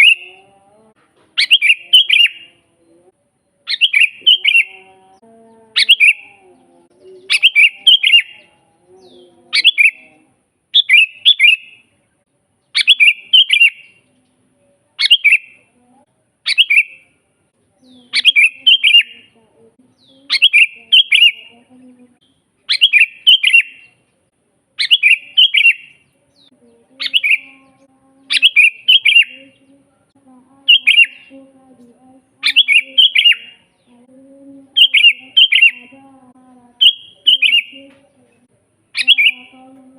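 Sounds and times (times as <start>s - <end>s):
bulbul singing: 0.0s - 24.1s, 24.8s - 39.9s.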